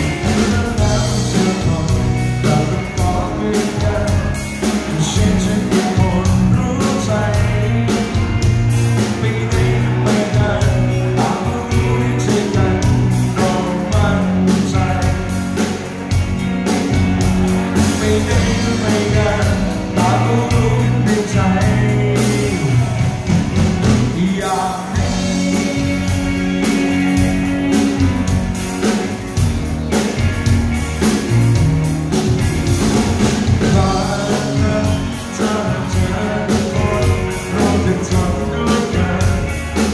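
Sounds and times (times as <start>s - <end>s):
man singing: 0.0s - 15.9s, 17.5s - 28.6s, 33.5s - 39.9s
bass guitar: 0.0s - 39.9s
drum kit: 0.0s - 39.9s
electric guitars: 0.0s - 39.9s.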